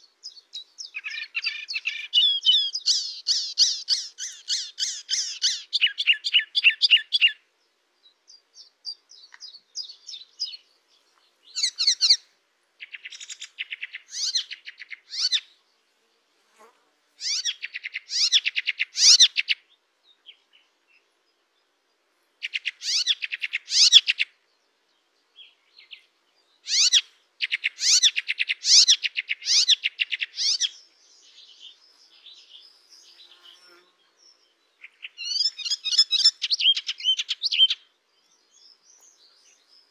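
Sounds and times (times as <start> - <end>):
songbird singing rattling phrases: 0.0 - 16.1, 17.2 - 39.9.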